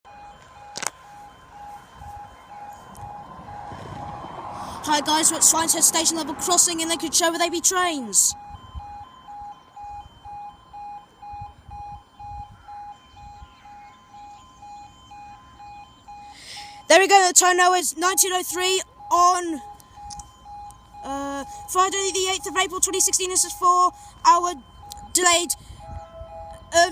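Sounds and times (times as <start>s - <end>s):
level crossing warning alarm: 0.0s - 26.9s.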